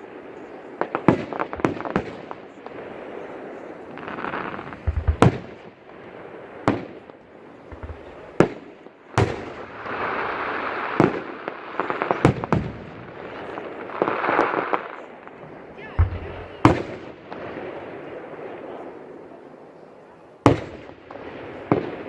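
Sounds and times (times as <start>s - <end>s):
firework crackling: 0.0s - 19.4s
firework shells booming: 0.8s - 18.8s, 20.4s - 22.0s.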